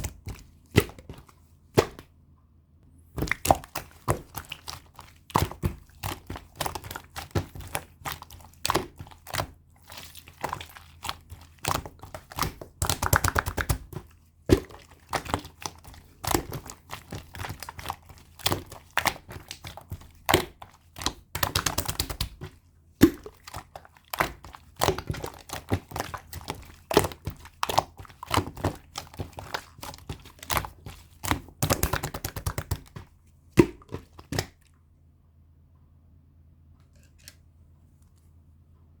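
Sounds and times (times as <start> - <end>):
slime squished by hand: 0.0 - 2.1, 3.1 - 34.7.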